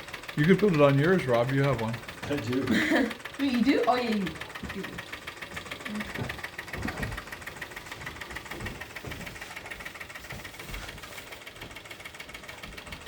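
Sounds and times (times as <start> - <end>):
steam engine clatter and chuff: 0.0 - 13.0.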